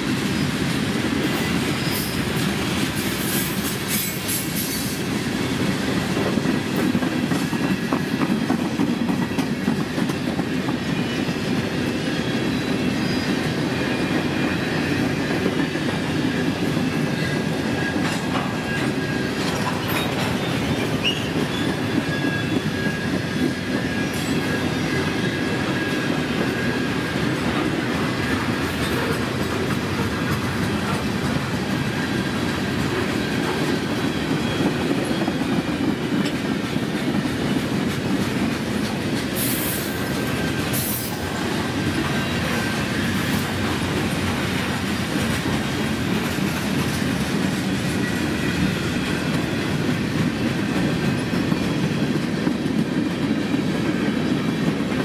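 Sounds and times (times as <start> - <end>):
steel wheels clattering on rails: 0.0 - 55.0.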